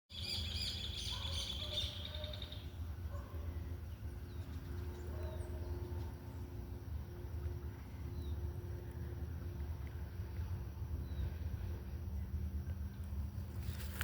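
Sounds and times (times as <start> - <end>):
steady low rumble: 0.2 - 14.0.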